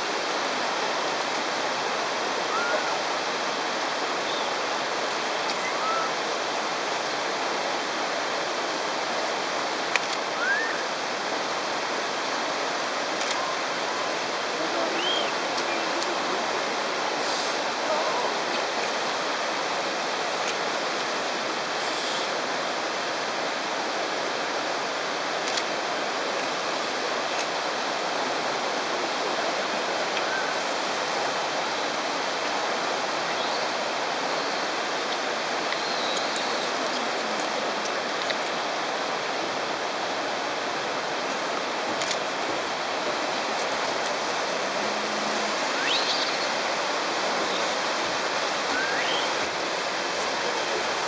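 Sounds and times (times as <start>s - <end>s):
water rushing: 0.0s - 51.0s.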